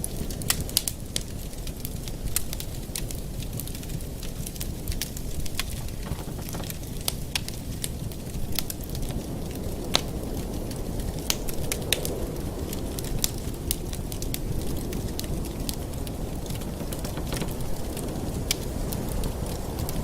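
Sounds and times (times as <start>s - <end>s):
wood fire crackling: 0.1s - 20.0s.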